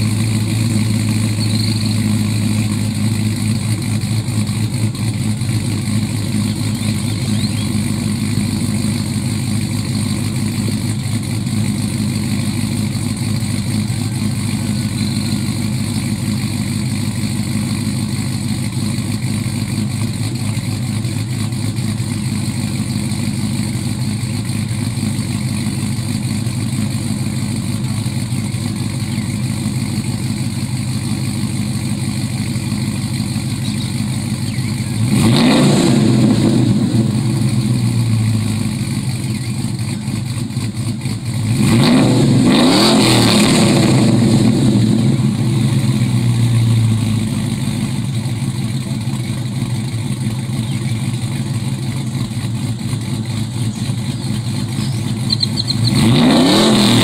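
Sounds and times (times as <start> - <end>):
vee eight engine idling: 0.0 - 57.0.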